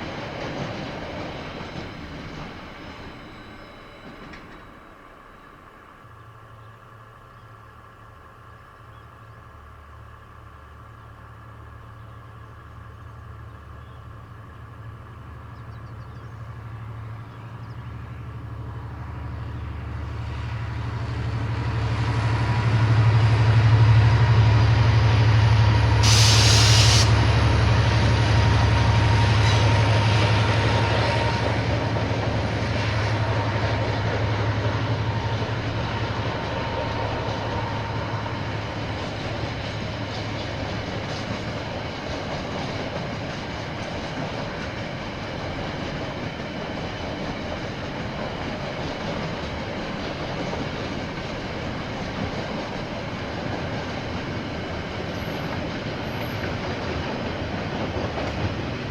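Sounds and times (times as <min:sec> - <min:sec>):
locomotive engine drone: 0:00.0 - 0:58.9.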